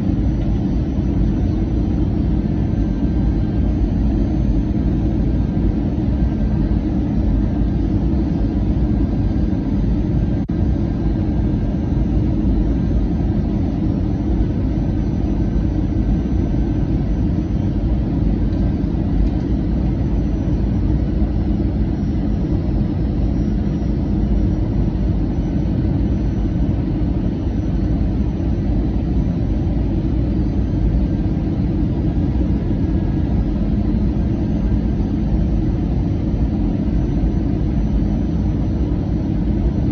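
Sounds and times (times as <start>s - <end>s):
airliner engine rumble: 0.0s - 39.9s.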